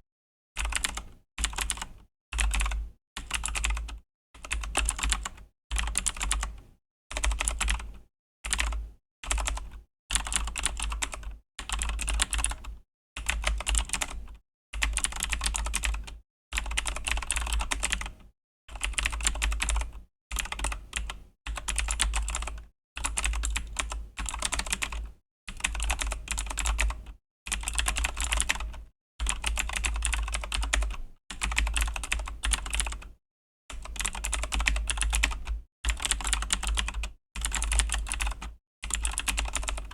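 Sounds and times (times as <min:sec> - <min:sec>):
clicky mechanical keyboard typing: 0:00.6 - 0:06.6, 0:07.2 - 0:14.2, 0:14.8 - 0:39.9.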